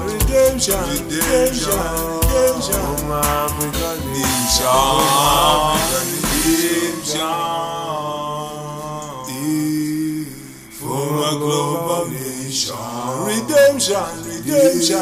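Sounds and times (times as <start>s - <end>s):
reggae song with chanted vocals: 0.0s - 15.0s.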